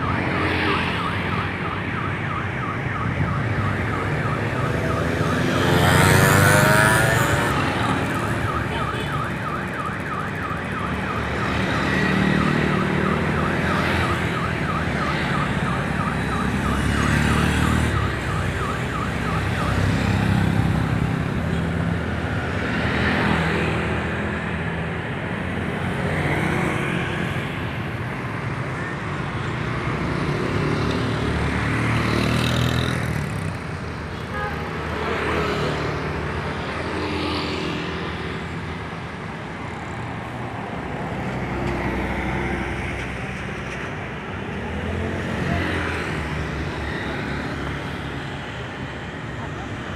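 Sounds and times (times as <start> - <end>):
motorcycles passing: 0.0 - 34.1, 34.7 - 49.9
traffic hum: 0.0 - 49.9.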